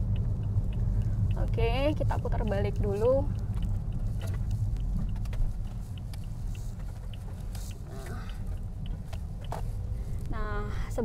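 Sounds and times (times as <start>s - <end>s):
car cabin road and engine rumble: 0.0s - 11.0s
faint ticks: 0.1s - 10.4s.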